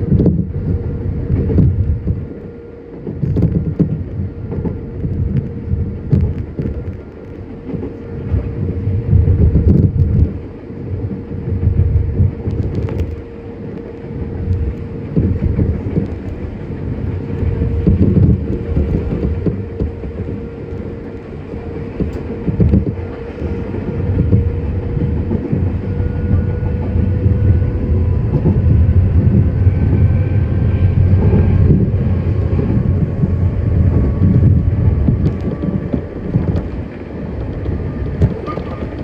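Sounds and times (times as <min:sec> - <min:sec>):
steady motor tone: 0:00.0 - 0:39.0
train wheels rumbling on rails: 0:00.0 - 0:39.0.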